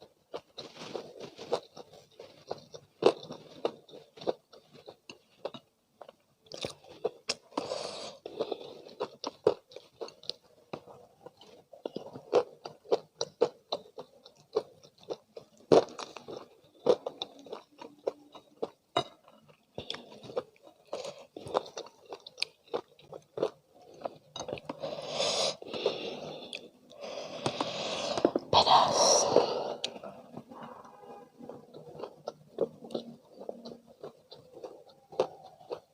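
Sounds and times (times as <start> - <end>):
crunchy chewing: 0.0 - 35.9.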